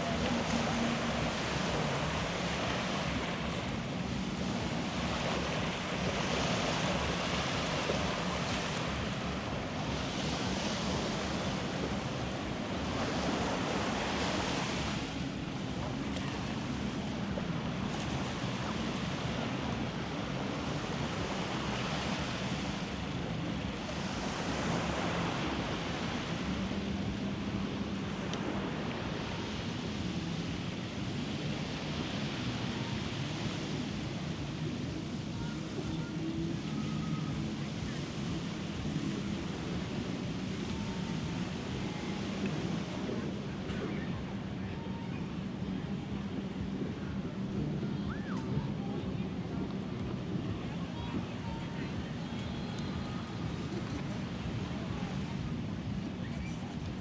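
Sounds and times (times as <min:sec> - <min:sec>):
surf washing on beach: 0:00.0 - 0:57.0
wind on microphone: 0:00.0 - 0:57.0.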